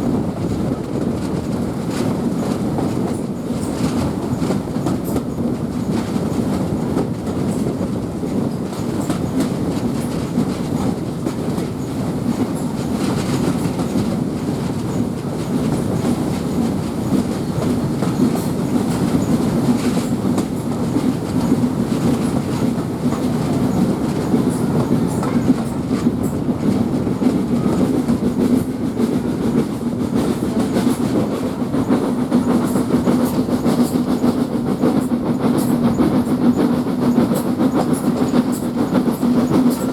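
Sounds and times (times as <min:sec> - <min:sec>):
train running rumble: 0:00.0 - 0:39.9
train wheels clicking over rail joints: 0:00.6 - 0:39.9.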